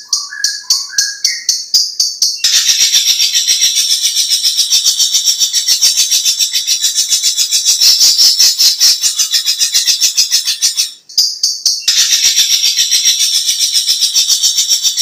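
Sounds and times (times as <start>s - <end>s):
bird chattering song: 0.0s - 15.0s.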